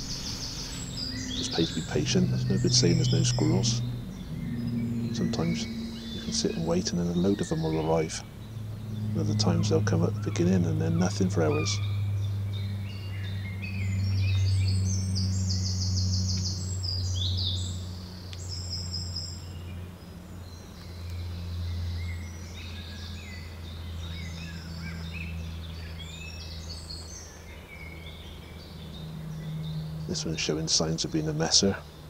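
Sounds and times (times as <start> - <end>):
songbirds singing: 0.0 - 32.0
steady low hum: 0.0 - 32.0.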